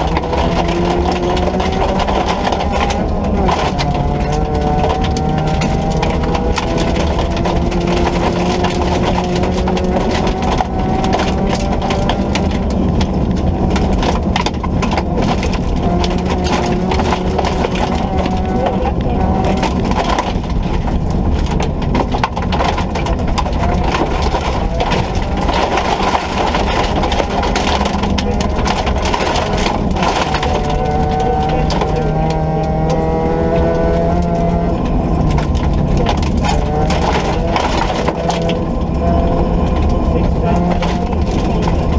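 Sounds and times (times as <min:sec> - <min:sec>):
gravel rattling against car: 0:00.0 - 0:41.9
rally car engine revving: 0:00.0 - 0:41.9.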